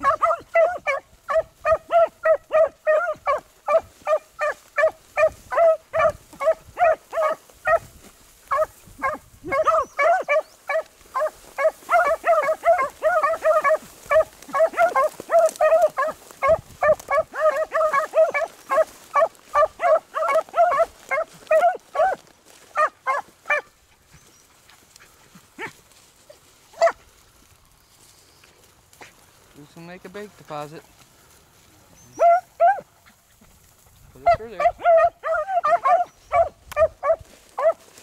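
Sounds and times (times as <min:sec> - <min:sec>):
dogs yelping: 0:00.0 - 0:27.0, 0:32.0 - 0:33.6, 0:34.2 - 0:38.0.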